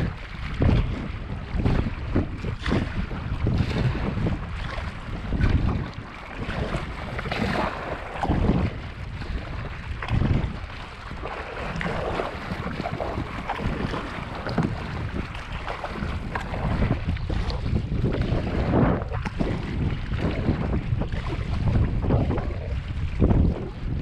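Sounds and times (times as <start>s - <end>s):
water splashing around kayak: 0.0s - 24.0s
wind buffeting microphone: 0.0s - 24.0s.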